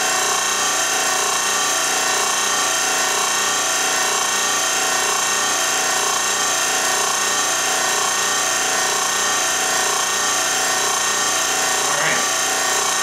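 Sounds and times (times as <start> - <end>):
machine whirring hum: 0.0 - 13.0.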